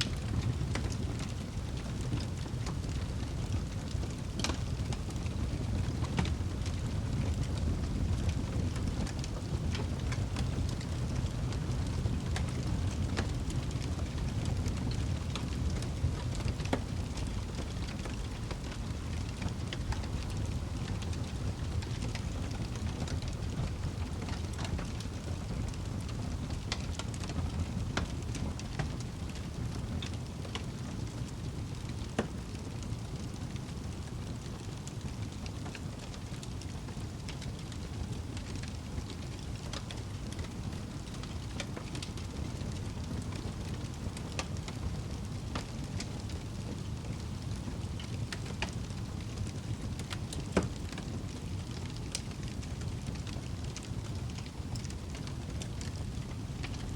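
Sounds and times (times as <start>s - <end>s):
fire crackles and pops: 0.0s - 56.9s
fire rumbling: 0.0s - 56.9s.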